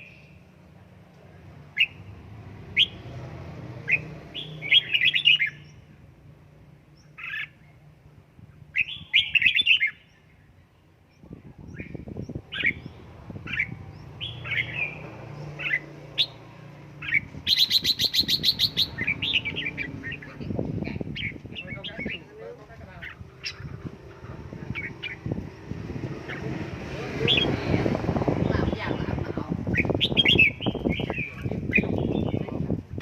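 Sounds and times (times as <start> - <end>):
bird chirping and warbling: 1.4 - 6.0, 6.9 - 7.9, 8.5 - 33.0.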